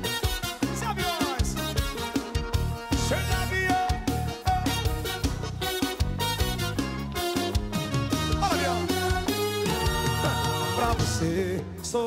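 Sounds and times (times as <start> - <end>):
brass section playing: 0.0 - 11.6
bass: 0.0 - 12.0
drums: 0.0 - 12.0.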